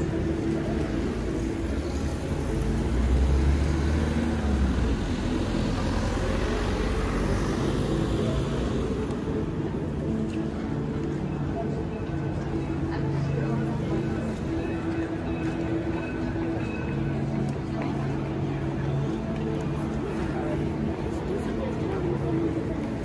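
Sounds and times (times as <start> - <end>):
traffic road noise: 0.0 - 23.0.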